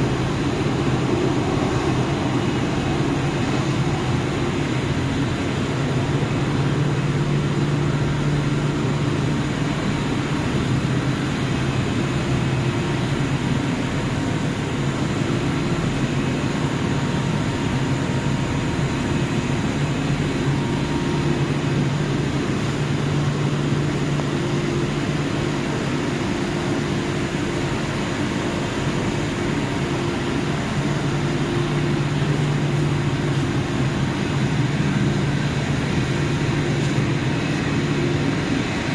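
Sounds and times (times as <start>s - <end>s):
boiler plant machine drone: 0.0s - 38.9s.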